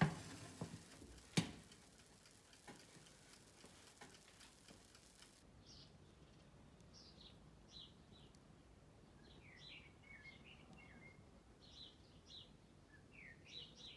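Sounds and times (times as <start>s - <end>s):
low background hiss: 0.0s - 13.9s
bird chirping: 0.6s - 13.9s.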